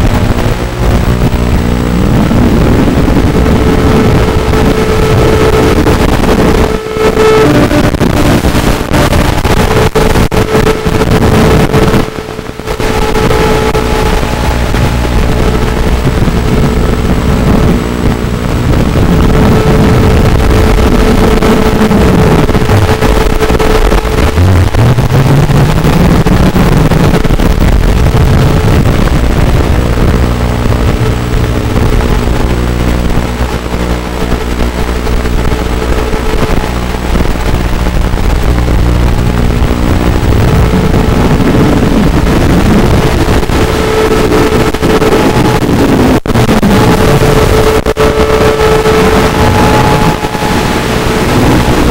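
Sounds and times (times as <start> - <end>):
dense rushing noise: 0.0 - 51.9
drone motors buzzing: 0.0 - 51.9.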